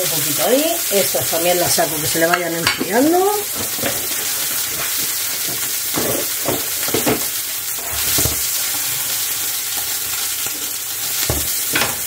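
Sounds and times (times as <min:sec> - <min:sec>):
sausages sizzling in a frying pan: 0:00.0 - 0:12.0.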